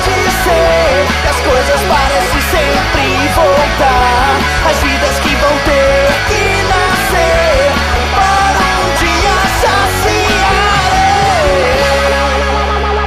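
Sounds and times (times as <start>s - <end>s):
instrumental rock band: 0.0s - 13.0s
lead guitar melody bending: 0.0s - 13.0s.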